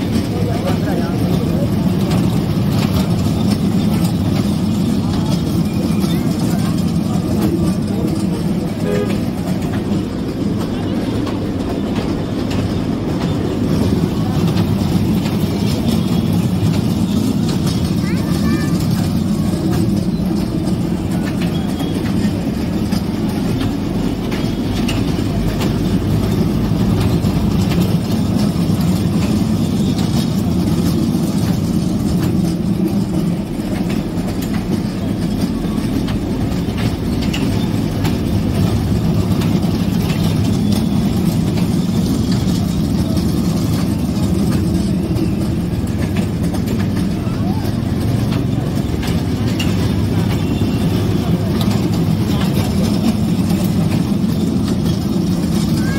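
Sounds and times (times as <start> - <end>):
ride train rumbling on track: 0.0 - 55.9.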